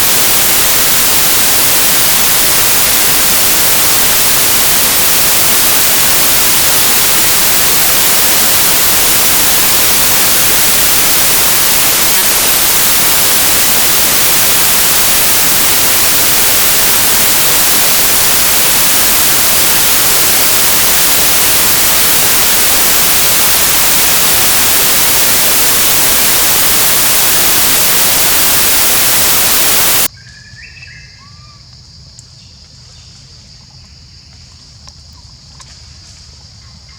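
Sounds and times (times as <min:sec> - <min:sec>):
loud static hiss: 0:00.0 - 0:30.1.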